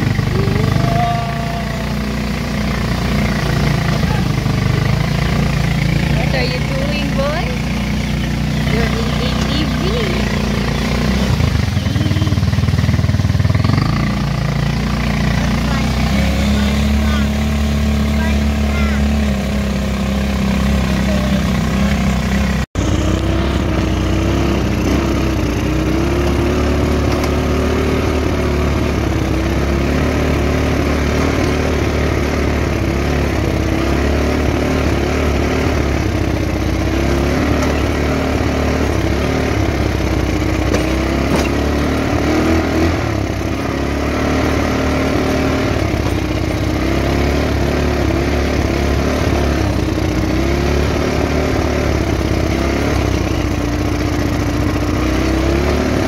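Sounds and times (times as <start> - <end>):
small vehicle engine running: 0.0 - 56.0.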